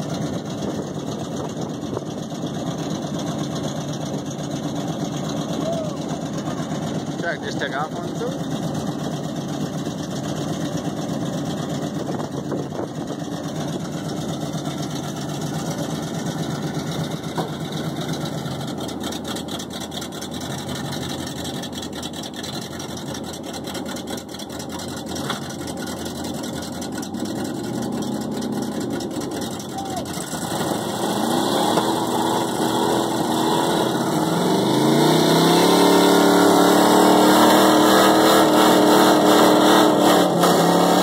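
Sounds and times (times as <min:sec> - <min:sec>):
truck engines idling: 0:00.0 - 0:41.0.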